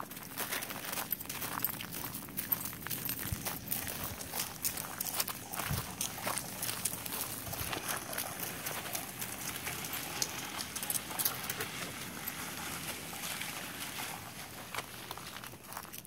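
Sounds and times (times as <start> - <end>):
footsteps crunching on icy snow: 0.0 - 16.0.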